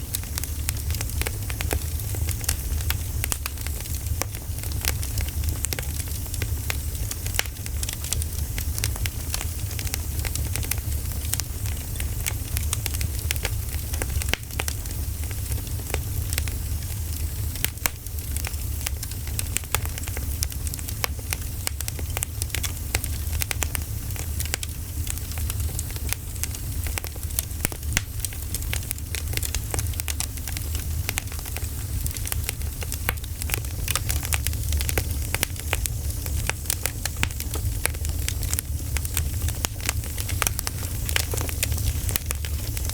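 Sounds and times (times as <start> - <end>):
wood fire pops and snaps: 0.0 - 42.9.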